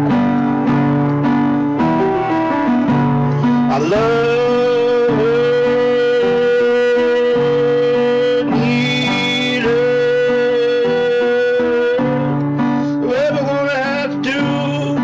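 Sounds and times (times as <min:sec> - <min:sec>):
song with guitar: 0:00.0 - 0:15.0.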